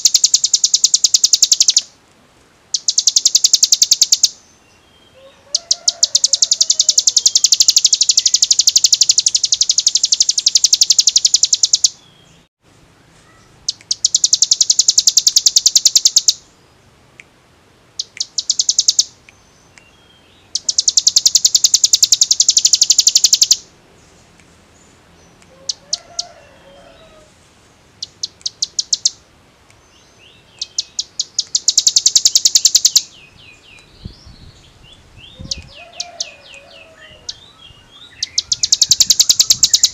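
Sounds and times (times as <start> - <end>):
bird singing fast trills: 0.0 - 1.9, 2.7 - 12.5, 13.4 - 16.9, 17.9 - 24.2, 27.9 - 29.2, 29.9 - 39.9.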